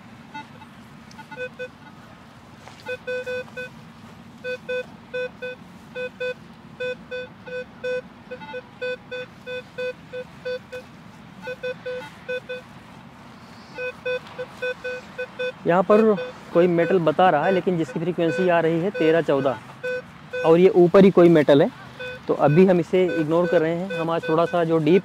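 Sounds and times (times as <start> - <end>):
metal detector beeping: 0.3 - 1.8, 2.6 - 3.8, 4.4 - 12.7, 13.6 - 25.0.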